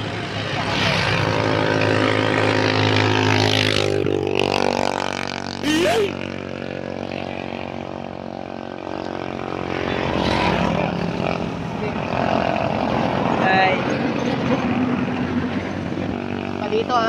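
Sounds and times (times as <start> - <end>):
drone propellers humming: 0.0 - 17.0
vehicle engine running: 0.0 - 17.0.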